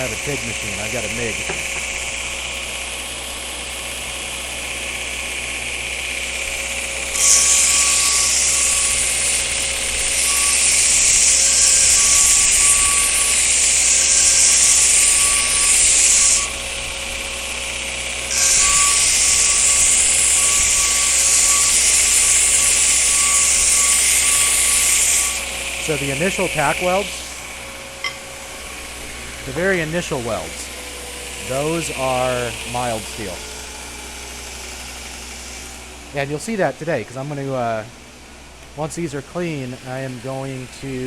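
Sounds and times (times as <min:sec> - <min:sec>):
belt grinder running: 0:00.0 - 0:36.3
steel grinding on belt: 0:00.0 - 0:36.3.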